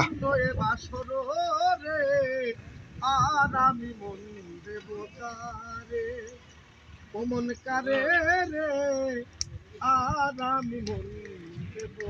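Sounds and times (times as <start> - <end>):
man singing: 0.0 - 6.4, 7.1 - 12.0.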